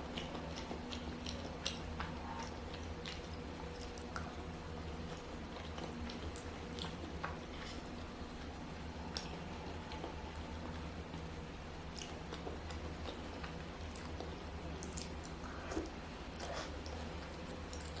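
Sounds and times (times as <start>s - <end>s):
person chewing food: 0.0s - 11.0s, 11.8s - 18.0s
steady low hum: 0.0s - 18.0s.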